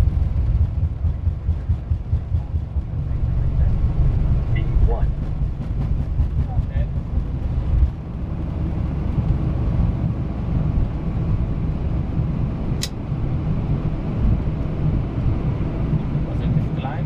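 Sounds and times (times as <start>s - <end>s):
jet engines and wheels rumbling: 0.0s - 17.0s.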